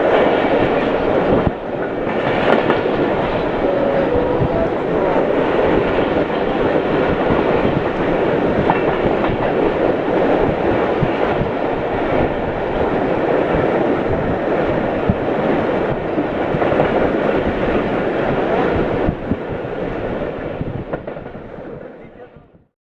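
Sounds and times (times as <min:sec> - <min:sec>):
train wheels clattering over rails: 0:00.0 - 0:21.6.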